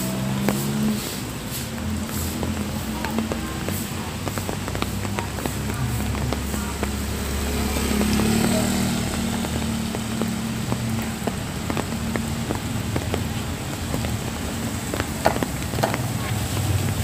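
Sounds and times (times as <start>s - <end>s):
light rain on pavement: 0.0s - 17.0s
vehicle engine running: 0.0s - 17.0s.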